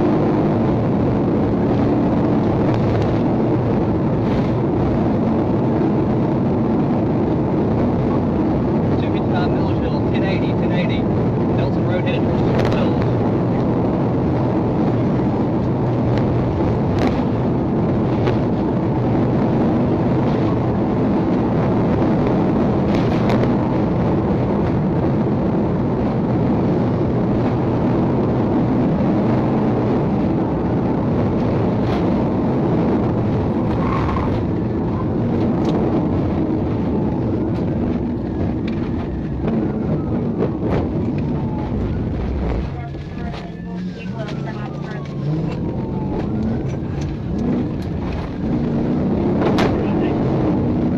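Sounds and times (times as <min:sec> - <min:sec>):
car engine and wind noise: 0:00.0 - 0:50.9.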